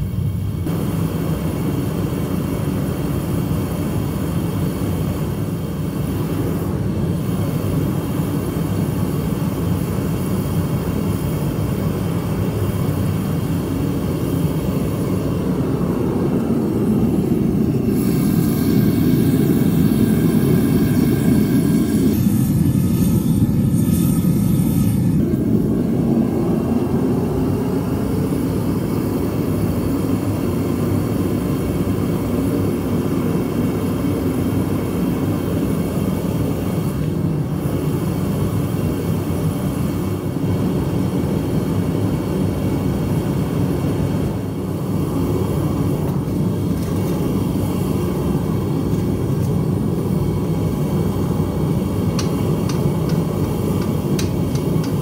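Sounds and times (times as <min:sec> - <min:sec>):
propane burner rushing: 0:00.0 - 0:55.0.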